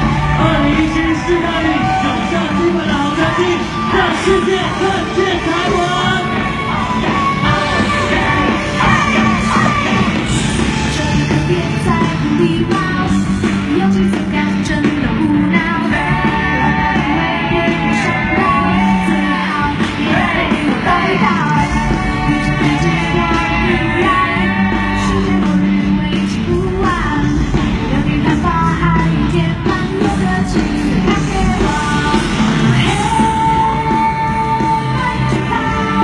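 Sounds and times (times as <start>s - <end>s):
person singing: 0.0s - 36.0s
steady bass line: 0.0s - 36.0s.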